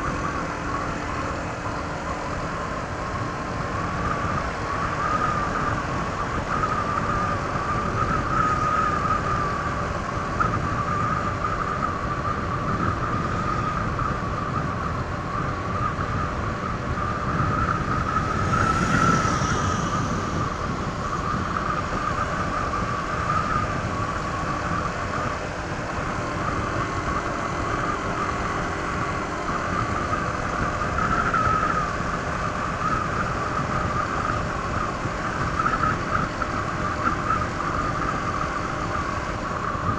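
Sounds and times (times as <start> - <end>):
road and wind noise: 0.0 - 39.9
scooter engine drone: 0.0 - 39.9.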